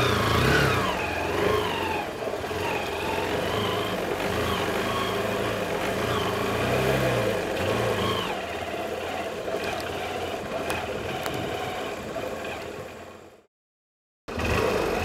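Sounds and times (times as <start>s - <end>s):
motorcycle engine revving: 0.0s - 13.5s, 14.3s - 15.0s.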